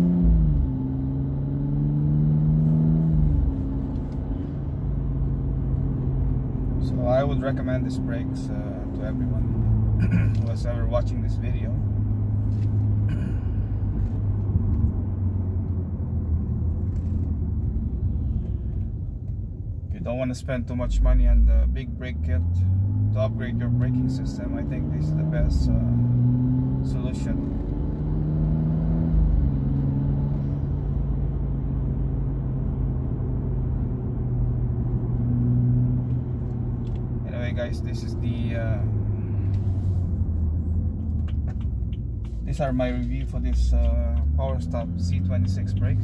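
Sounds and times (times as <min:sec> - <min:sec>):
car engine and tyres droning: 0:00.0 - 0:46.0
low road rumble: 0:00.0 - 0:46.0.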